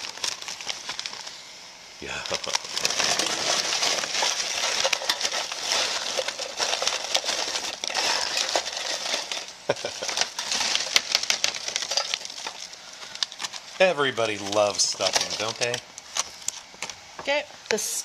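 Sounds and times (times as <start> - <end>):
foil pouch rustling and crackling: 0.0 - 1.4, 2.1 - 16.9.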